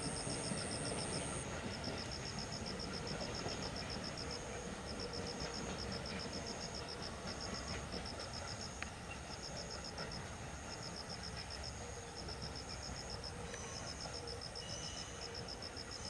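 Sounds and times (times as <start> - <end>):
faint high insect trill: 0.0 - 16.0
insects chirping in rapid pulses: 0.0 - 16.0.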